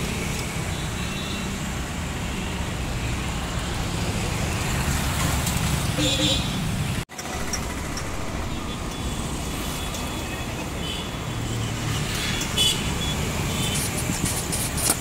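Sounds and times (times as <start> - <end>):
hum of passing traffic: 0.0 - 15.0.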